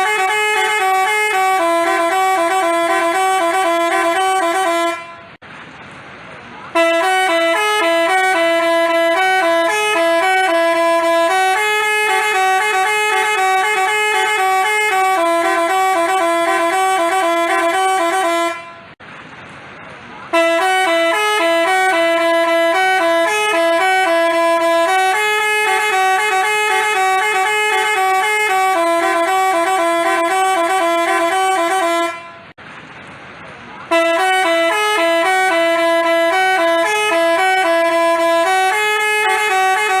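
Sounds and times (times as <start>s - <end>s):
musical horn playing a tune: 0.0s - 5.4s, 6.7s - 19.0s, 20.3s - 32.5s, 33.9s - 40.0s.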